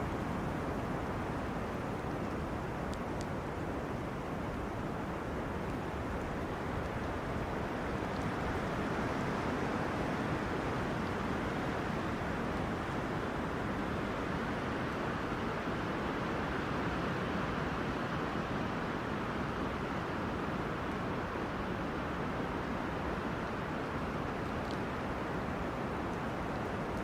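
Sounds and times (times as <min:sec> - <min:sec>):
wind blowing through trees: 0:00.0 - 0:27.0.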